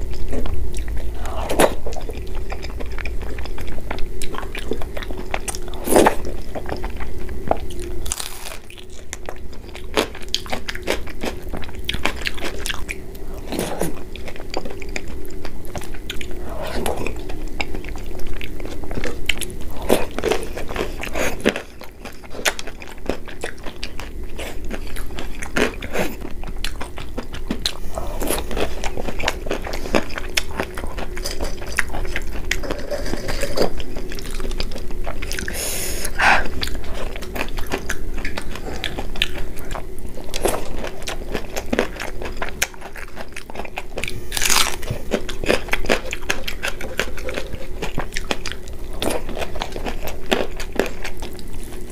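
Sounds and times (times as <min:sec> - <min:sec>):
crunching and chewing fried food: 0:00.0 - 0:51.9
faint steady hum: 0:00.0 - 0:51.9.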